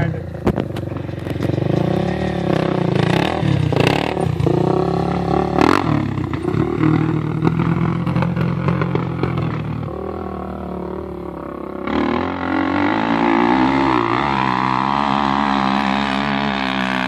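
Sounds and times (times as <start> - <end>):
quad bike engine revving: 0.0 - 17.0.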